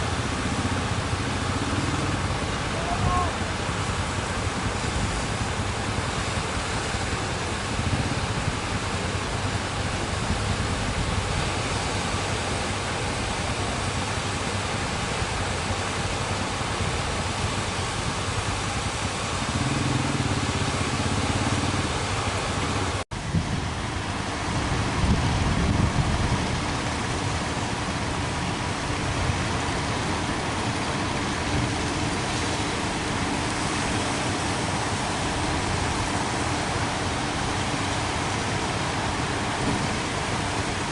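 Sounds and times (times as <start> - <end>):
boat engine droning: 0.0 - 40.9
surf rushing at shore: 0.0 - 40.9.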